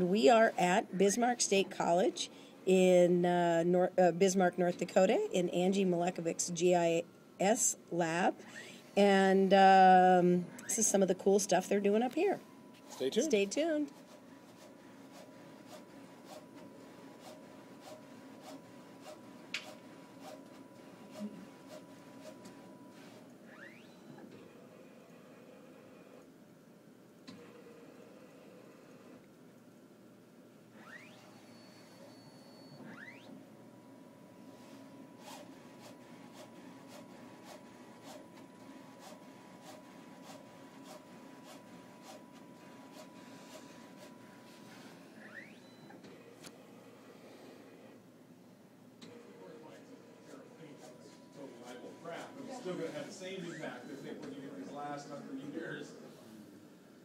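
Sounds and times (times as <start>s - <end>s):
printer humming: 0.0s - 26.3s, 27.2s - 29.2s, 30.8s - 48.2s, 49.0s - 57.0s.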